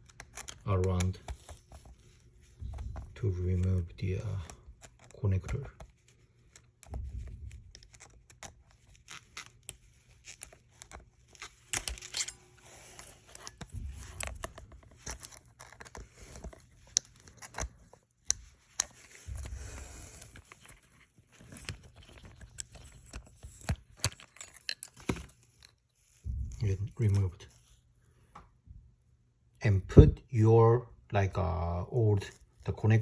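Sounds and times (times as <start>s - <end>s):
plastic connector clicking and scraping: 0.0s - 28.4s.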